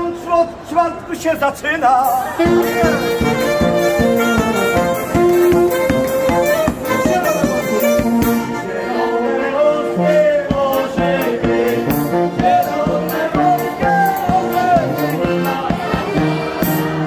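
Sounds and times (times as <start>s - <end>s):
accordion: 2.2s - 17.0s
tuba: 2.3s - 17.0s.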